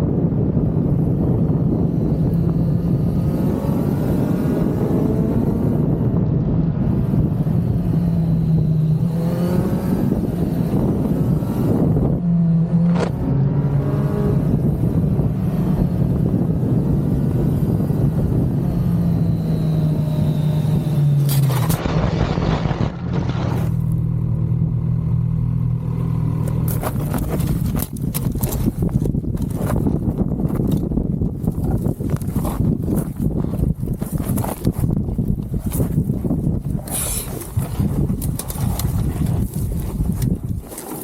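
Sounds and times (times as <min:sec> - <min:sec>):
motorcycle engine running: 0:00.0 - 0:21.9, 0:22.5 - 0:41.0.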